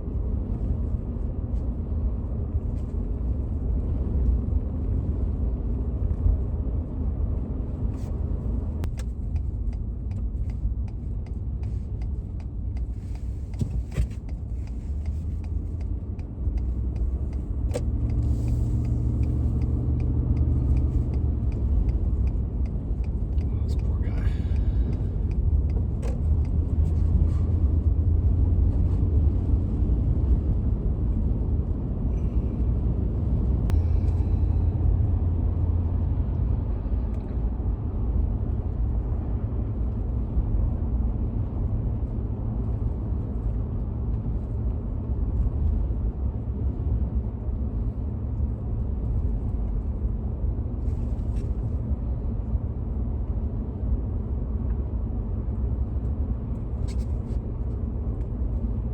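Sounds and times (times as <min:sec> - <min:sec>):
vehicle engine and road noise: 0:00.0 - 0:58.9.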